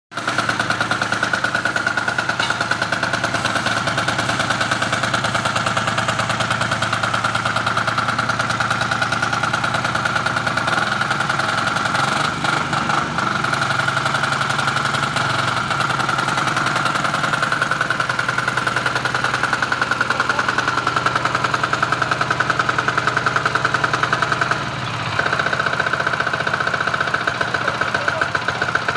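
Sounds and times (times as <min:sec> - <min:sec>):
diesel roller engine knocking: 0:00.1 - 0:28.9.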